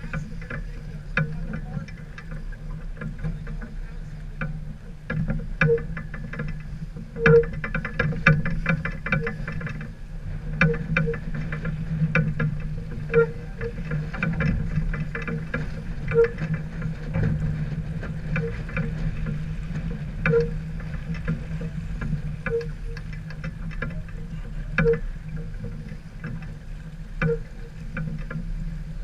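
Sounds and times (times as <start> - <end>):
sharp clicks and knocks: 0.0 - 28.7
steady low hum: 0.0 - 29.0.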